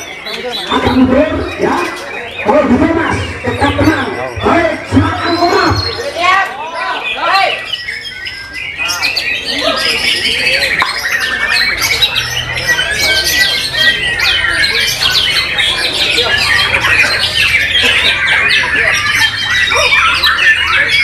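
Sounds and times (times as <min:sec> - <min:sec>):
other birds singing: 0:00.0 - 0:21.0.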